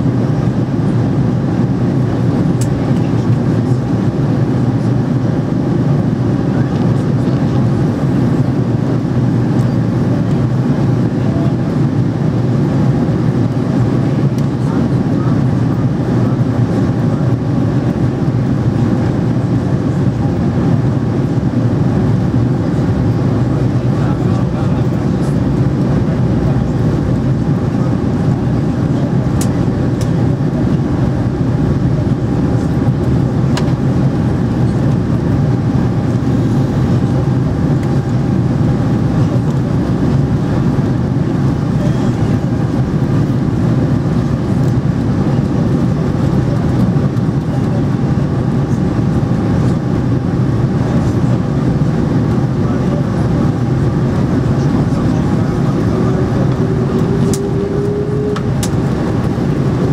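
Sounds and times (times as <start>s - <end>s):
aircraft engines droning: 0.0s - 59.9s.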